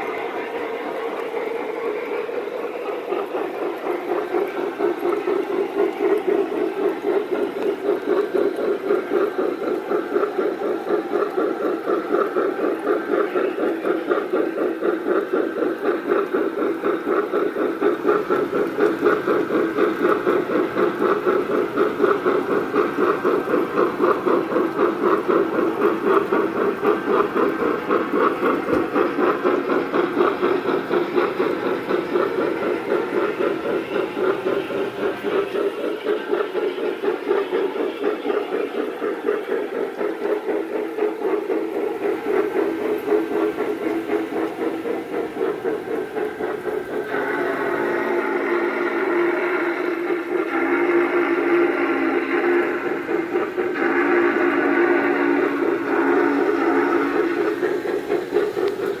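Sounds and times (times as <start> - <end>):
model steam locomotive chuffing: 0.0 - 59.0
model train rolling on track: 0.0 - 59.0.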